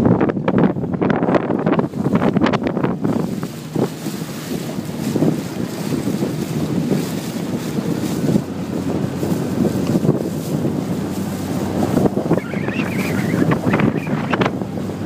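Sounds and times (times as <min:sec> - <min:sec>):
low boat hum: 0:00.0 - 0:15.0
wind buffeting microphone: 0:00.0 - 0:15.0.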